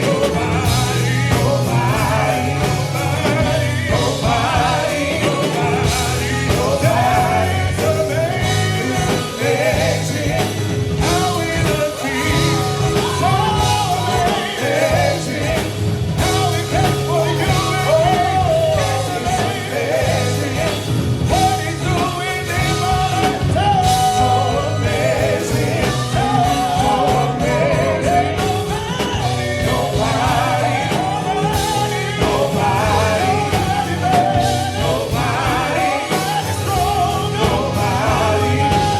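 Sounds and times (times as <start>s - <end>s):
backing band: 0.0s - 38.9s
gospel quartet singing: 0.0s - 38.9s.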